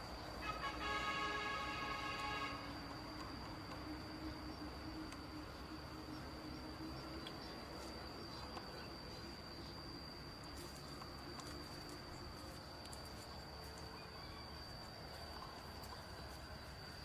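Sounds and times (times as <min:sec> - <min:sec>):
faint background noise: 0:00.0 - 0:17.0
insect trilling: 0:00.0 - 0:17.0.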